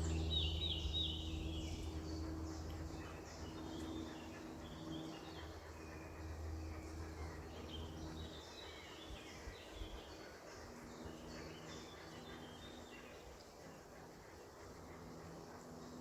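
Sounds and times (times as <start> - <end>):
faint low hum: 0.0 - 16.0
songbirds chirping: 0.0 - 16.0.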